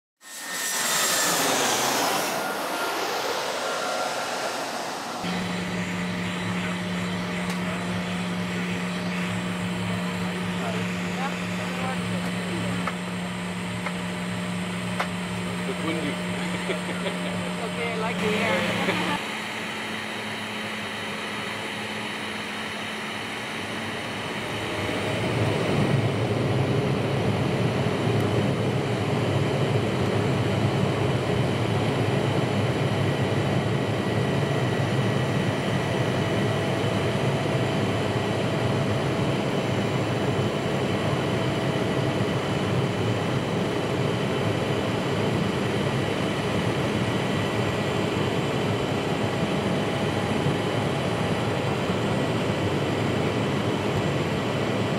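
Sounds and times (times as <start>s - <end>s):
jet engines rushing with whine: 0.2s - 54.9s.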